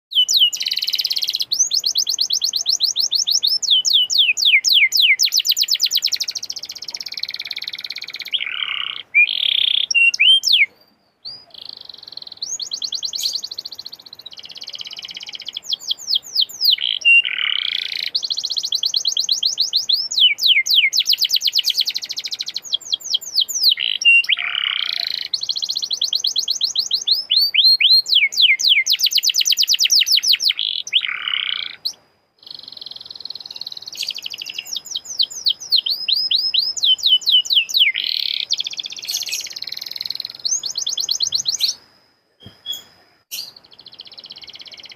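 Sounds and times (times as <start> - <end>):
canary singing trills: 0.1 - 44.9.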